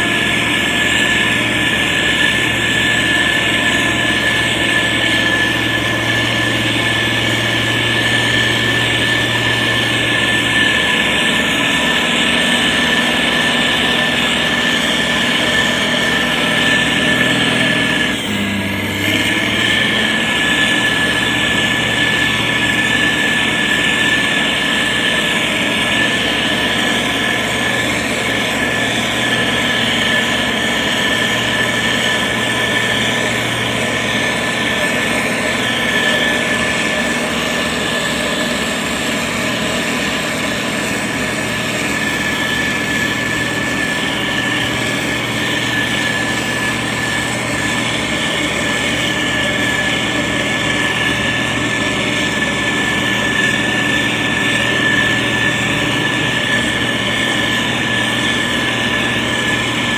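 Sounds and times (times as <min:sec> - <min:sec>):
diesel engine running: 0:00.0 - 0:59.9
high whine: 0:00.0 - 0:59.9.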